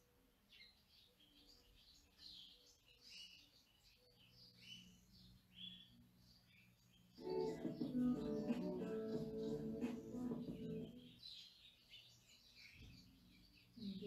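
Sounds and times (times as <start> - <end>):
birds chirping and twittering: 0.0 - 14.0.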